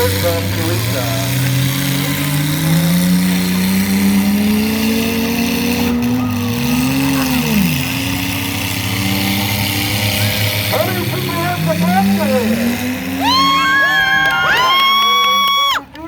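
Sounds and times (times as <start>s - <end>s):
mini truck engines revving: 0.0s - 16.0s.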